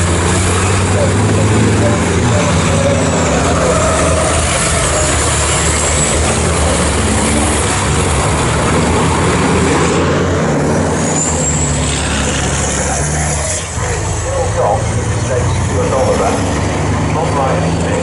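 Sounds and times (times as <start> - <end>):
diesel truck engines droning: 0.0 - 18.0.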